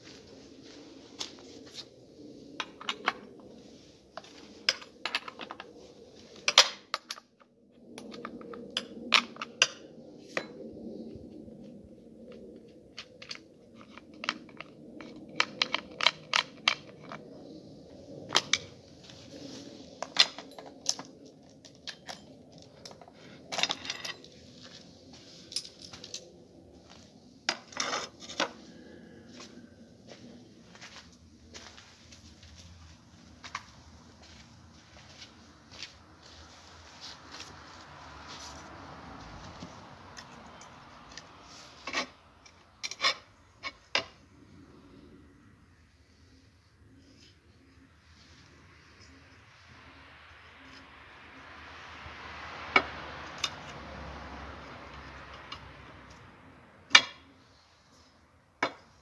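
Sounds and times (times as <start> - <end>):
low steady background noise: 0.0 - 59.0.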